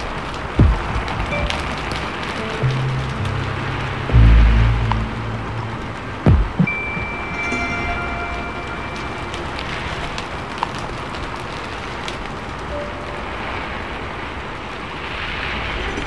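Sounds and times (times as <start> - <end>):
raindrops ticking: 0.0 - 15.2
rain and tyres on wet road: 0.0 - 16.0.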